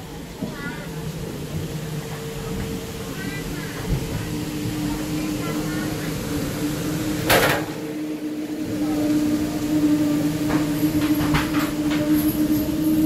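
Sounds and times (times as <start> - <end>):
moving train hum: 0.0 - 13.0.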